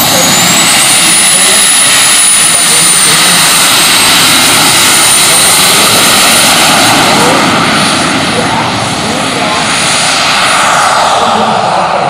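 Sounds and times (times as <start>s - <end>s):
model jet turbines whining: 0.0s - 12.0s.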